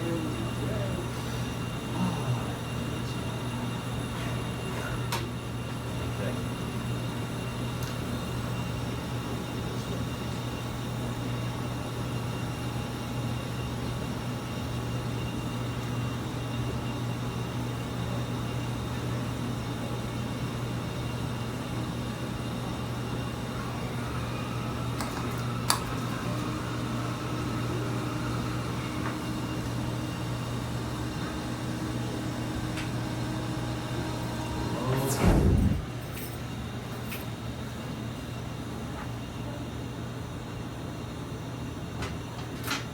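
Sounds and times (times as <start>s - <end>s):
low machine hum: 0.0s - 42.9s.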